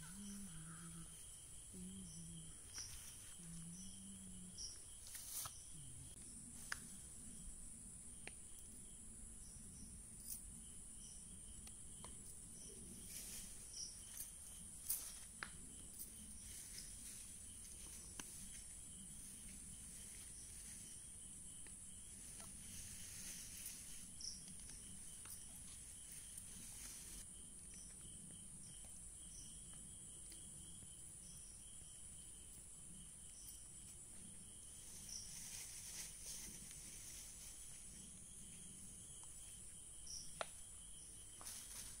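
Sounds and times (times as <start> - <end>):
insect chirping: 0.0 - 42.0
insects droning: 0.0 - 42.0.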